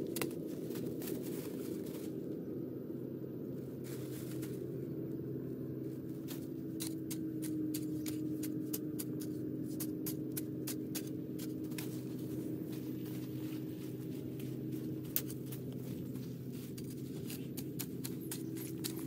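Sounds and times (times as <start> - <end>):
hoe scraping gritty soil: 0.0 - 2.3, 3.6 - 4.9, 5.8 - 19.0
low hum: 0.0 - 19.0.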